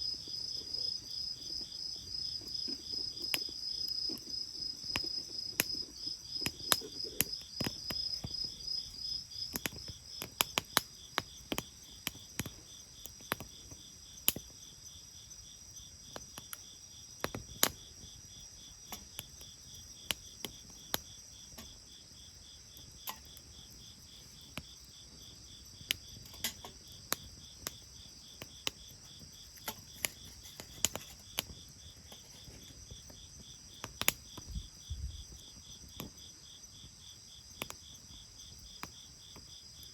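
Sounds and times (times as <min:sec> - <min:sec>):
bonfire crackling and popping: 0:00.0 - 0:14.6, 0:15.4 - 0:39.9
insects chirping: 0:00.0 - 0:39.9.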